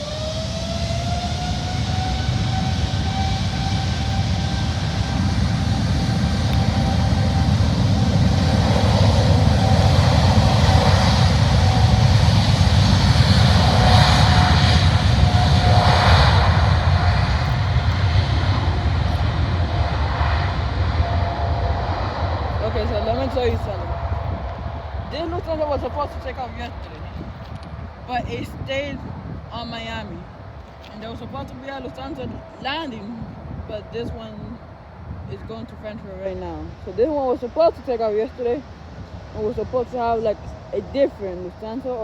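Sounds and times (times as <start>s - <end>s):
jet engines at takeoff thrust: 0.0s - 42.0s.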